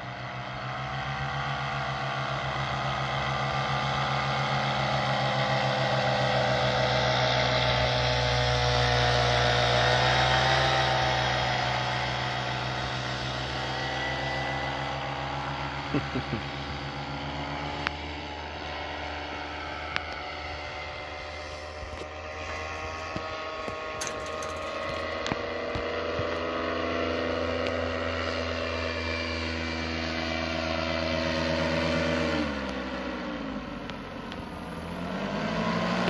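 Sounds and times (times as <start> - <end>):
paramotor engine and propeller drone: 0.0 - 36.0.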